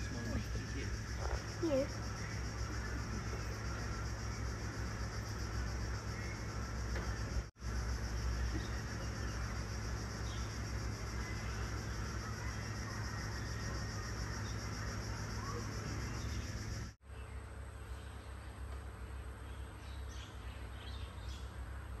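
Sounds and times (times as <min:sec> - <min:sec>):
constant low rumble: 0:00.0 - 0:22.0
insect chorus buzzing: 0:00.0 - 0:22.0.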